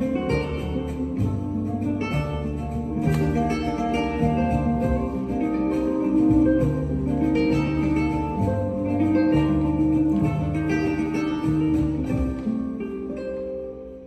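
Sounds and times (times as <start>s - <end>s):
flamenco guitar music: 0.0s - 14.0s.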